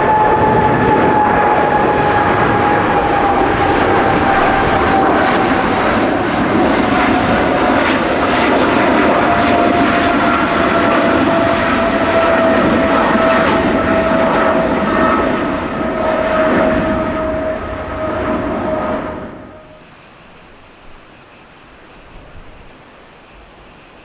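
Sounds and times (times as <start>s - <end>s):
jet airliner engines whining: 0.0s - 19.8s.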